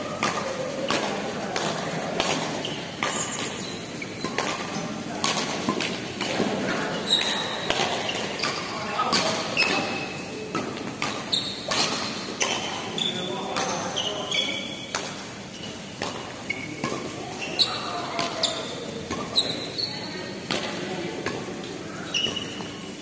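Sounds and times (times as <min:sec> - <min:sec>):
shoes squeaking on court: 0:00.0 - 0:23.0
rackets striking shuttlecock: 0:00.1 - 0:19.8, 0:20.4 - 0:22.8.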